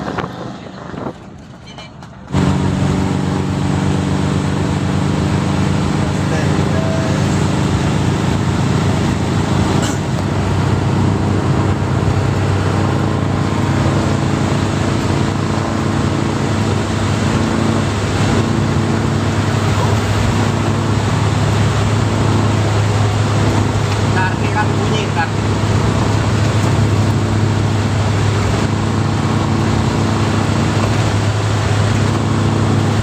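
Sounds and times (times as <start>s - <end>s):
engine humming: 0.0s - 33.0s
tyre and road noise: 0.0s - 33.0s.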